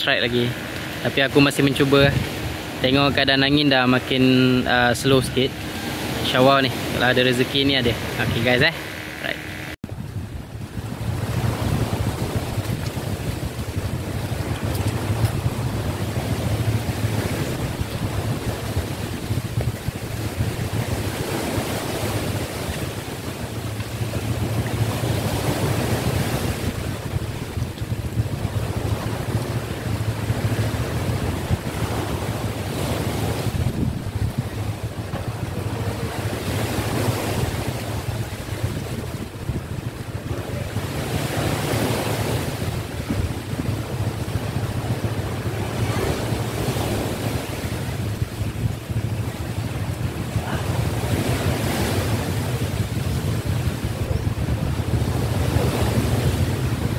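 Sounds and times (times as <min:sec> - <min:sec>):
sea waves washing ashore: 0:00.0 - 0:56.9
wind buffeting microphone: 0:00.0 - 0:56.9.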